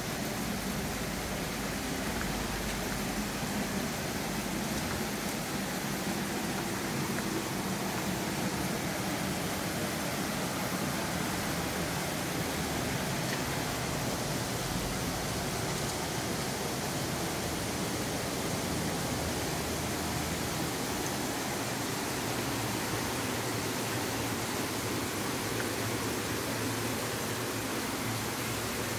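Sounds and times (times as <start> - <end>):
water pouring over rocks: 0.0 - 28.9.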